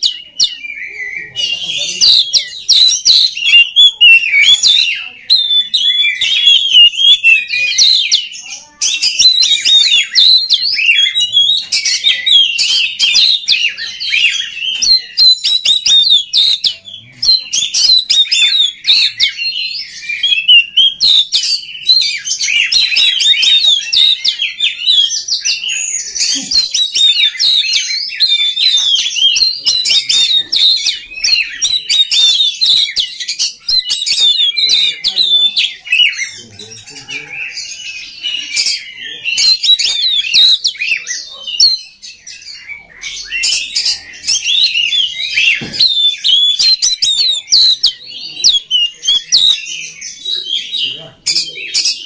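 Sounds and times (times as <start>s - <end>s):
songbird singing chirps and trills: 0.0s - 52.0s.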